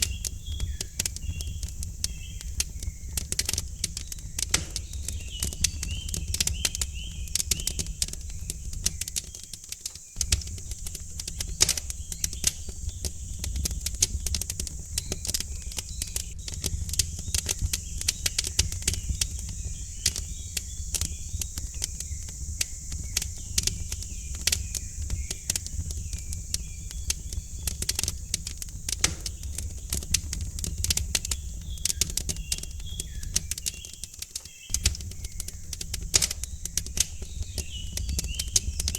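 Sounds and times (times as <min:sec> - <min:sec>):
birds chirping: 0:00.0 - 0:38.9
wood fire crackling: 0:00.0 - 0:38.9.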